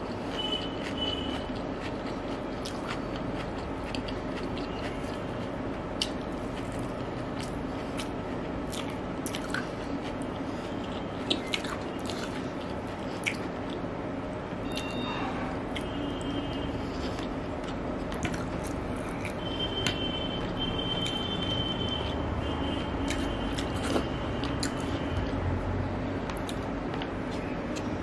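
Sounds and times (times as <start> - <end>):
chewing food: 0.0 - 13.9, 15.7 - 21.3, 22.9 - 25.4, 26.3 - 28.0.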